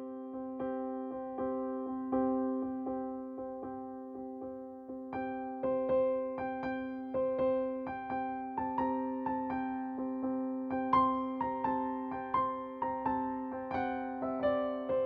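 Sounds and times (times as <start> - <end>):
gentle electric piano music: 0.0 - 15.0.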